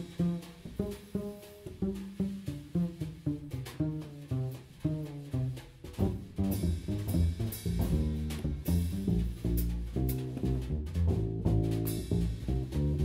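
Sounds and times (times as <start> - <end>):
drum kit and cymbals: 0.0 - 13.0
plucked double bass: 0.0 - 13.0.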